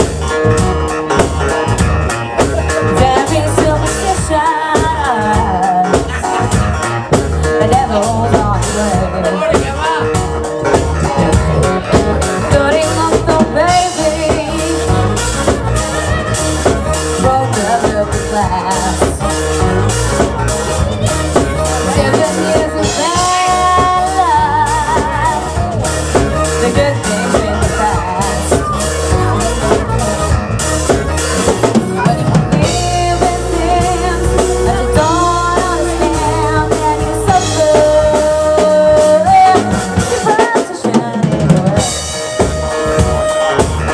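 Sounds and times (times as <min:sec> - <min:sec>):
drum kit with rimshots: 0:00.0 - 0:43.9
electric bass guitar: 0:00.0 - 0:43.9.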